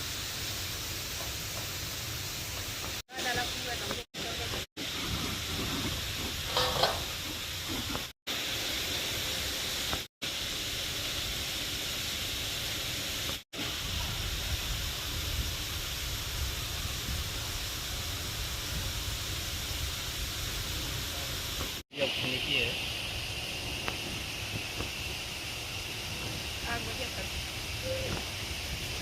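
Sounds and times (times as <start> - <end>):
waterfall rushing hiss: 0.0 - 29.0.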